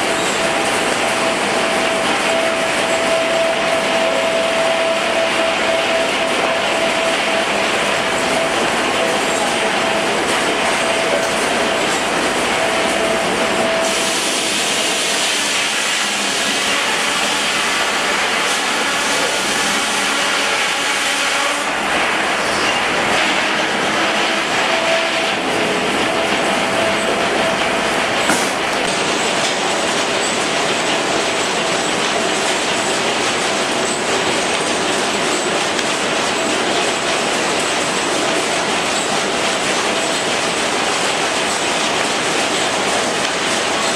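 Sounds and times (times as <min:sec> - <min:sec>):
sawmill machinery: 0:00.0 - 0:43.9
steam traction engine running: 0:00.0 - 0:43.9.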